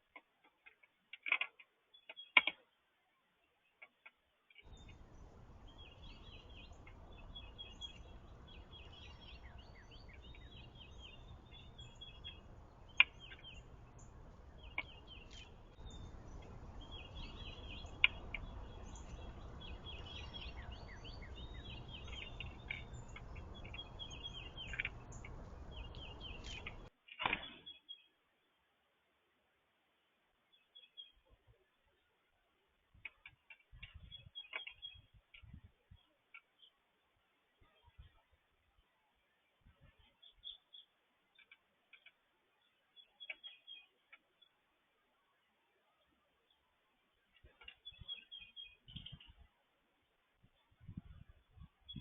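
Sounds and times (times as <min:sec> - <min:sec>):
small birds chirping: 0:00.0 - 0:28.6, 0:30.0 - 0:52.0
low background noise: 0:00.0 - 0:52.0.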